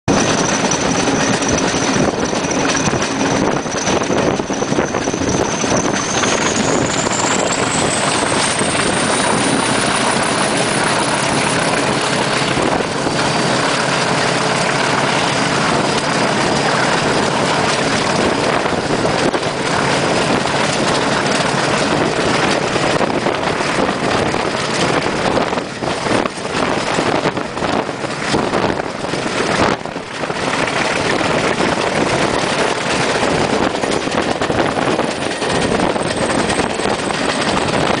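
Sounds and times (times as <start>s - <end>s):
diesel locomotive engine drone: 0.0s - 38.0s.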